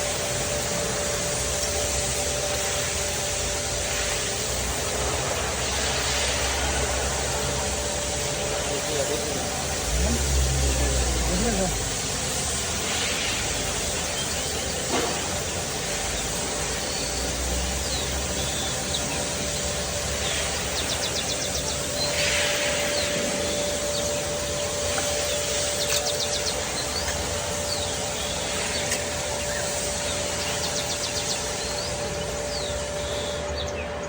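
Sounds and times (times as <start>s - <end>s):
birds chirping: 0.0s - 34.0s
engine humming: 0.0s - 34.0s
steady high tone: 0.0s - 34.0s.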